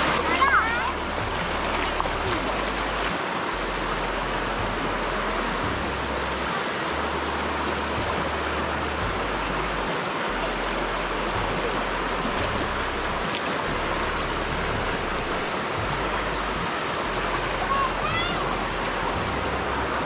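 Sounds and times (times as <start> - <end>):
shallow river flowing: 0.0 - 20.0.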